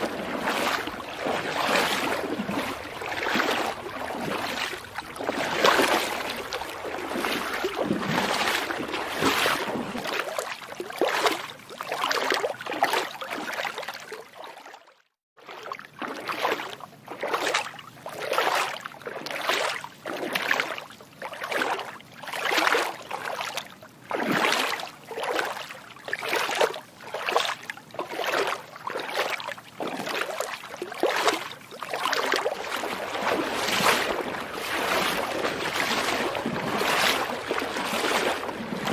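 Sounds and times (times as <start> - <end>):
footsteps wading through water: 0.0 - 38.9.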